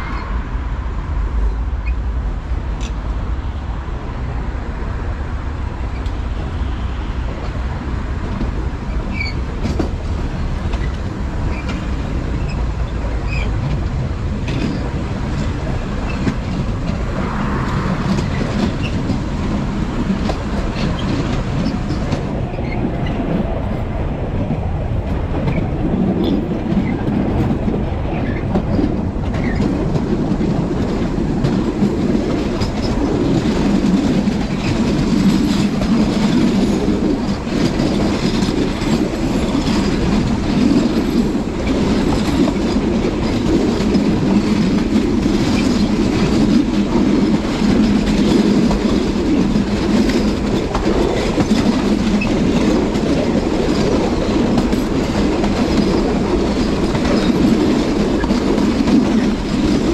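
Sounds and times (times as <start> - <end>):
rumble of train wheels on rail: 0.0 - 59.9.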